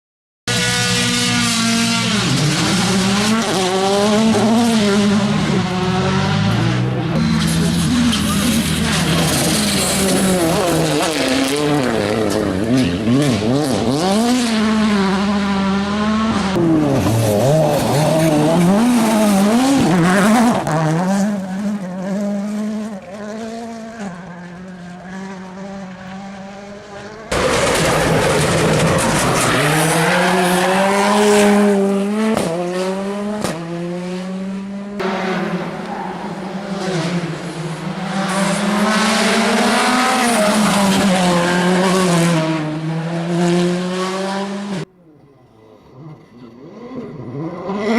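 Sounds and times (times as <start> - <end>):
rally car engines revving: 0.5 - 47.9.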